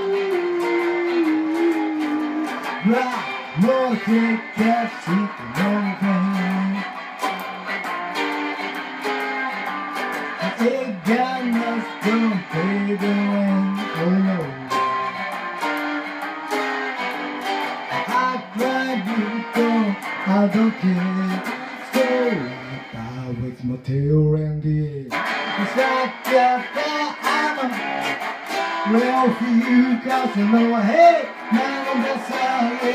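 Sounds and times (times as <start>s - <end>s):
electric guitar playing rockabilly: 0.0s - 32.9s.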